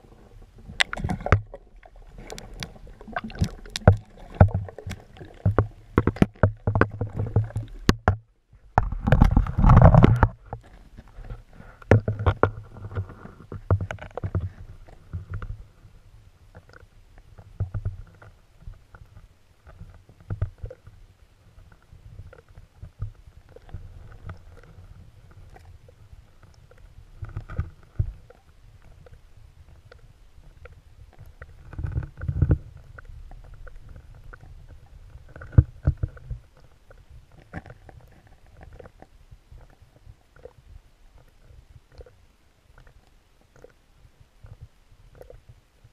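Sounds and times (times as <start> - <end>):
low underwater rumble: 0.0 - 45.9.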